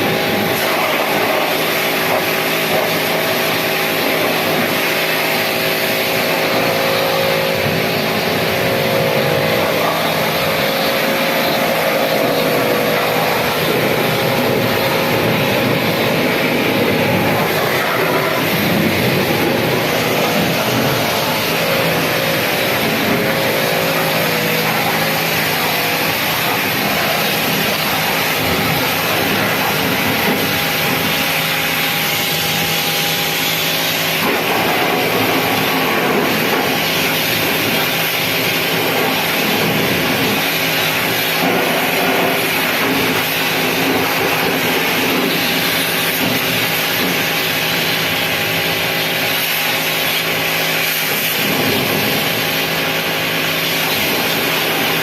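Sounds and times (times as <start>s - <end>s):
low machine hum: 0.0s - 47.0s
machine hiss: 0.0s - 55.0s.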